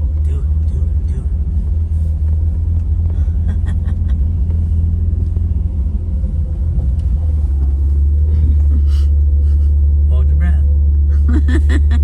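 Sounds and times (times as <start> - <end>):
engine rumble inside vehicle cabin: 0.0 - 12.0.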